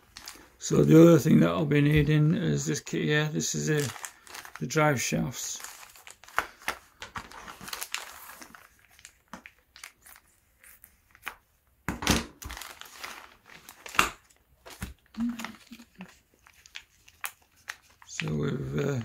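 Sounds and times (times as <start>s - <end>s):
plastic bags crinkling: 0.0s - 1.5s, 2.9s - 10.8s, 12.4s - 19.0s.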